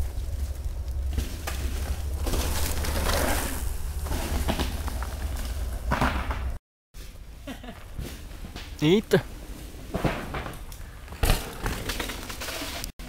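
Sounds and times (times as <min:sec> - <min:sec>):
bike tyres crunching over dirt: 0:00.0 - 0:12.9.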